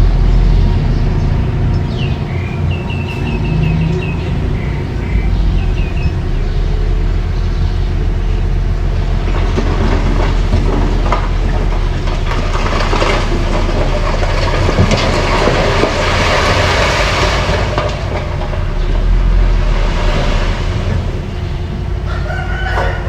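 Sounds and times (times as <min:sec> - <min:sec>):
crawler tracks clanking: 0:00.0 - 0:23.0
diesel engine hum: 0:00.0 - 0:23.0.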